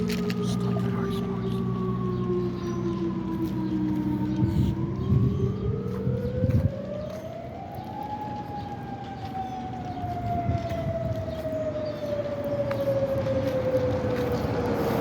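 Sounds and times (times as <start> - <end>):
fainter higher-pitched siren: 0.0 - 15.0
warning siren wailing: 0.0 - 15.0.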